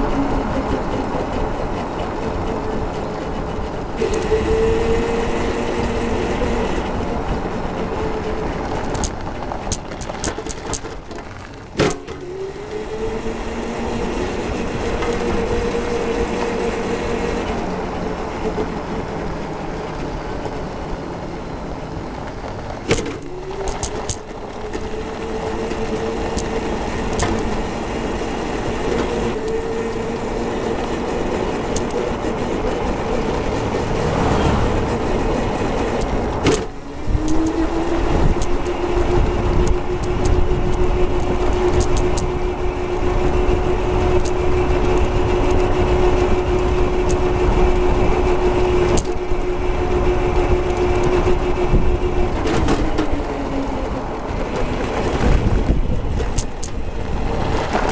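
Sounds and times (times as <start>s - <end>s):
electric motor whining: 0.0s - 57.9s
go-kart rumble: 0.0s - 57.9s.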